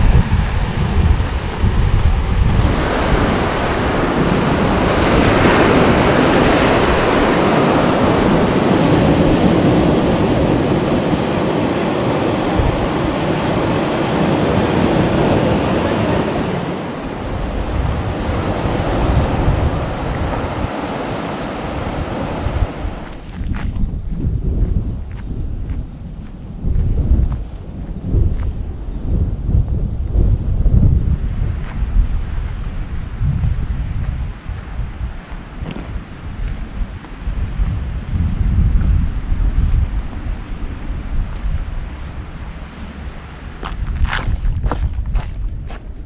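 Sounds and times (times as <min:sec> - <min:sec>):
surf washing up a beach: 0:00.0 - 0:23.4, 0:30.0 - 0:43.6
wind rumble on microphone: 0:00.0 - 0:46.0.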